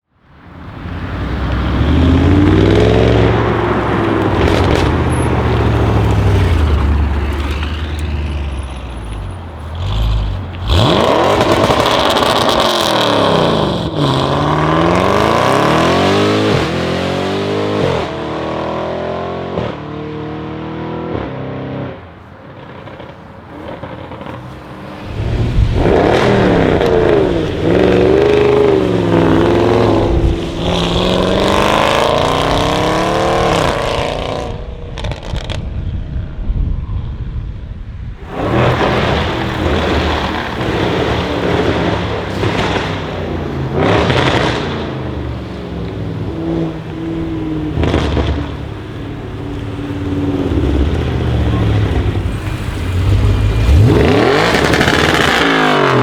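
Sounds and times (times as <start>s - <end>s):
car engine revving: 0.6s - 35.6s, 38.2s - 56.0s.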